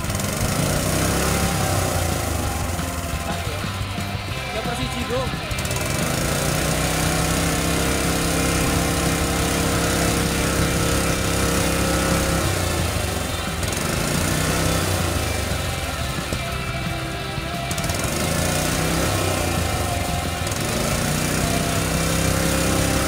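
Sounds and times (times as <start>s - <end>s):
four-stroke engine running: 0.0s - 23.0s.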